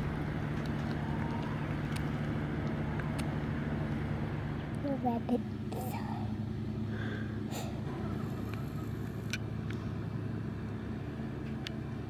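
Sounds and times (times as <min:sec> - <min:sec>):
low rumble with motor hum: 0:00.0 - 0:12.0.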